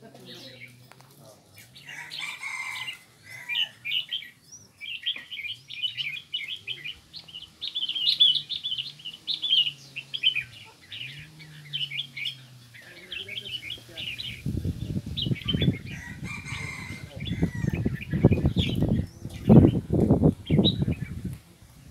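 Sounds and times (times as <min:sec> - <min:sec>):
songbirds chirping and twittering: 0:00.0 - 0:21.9.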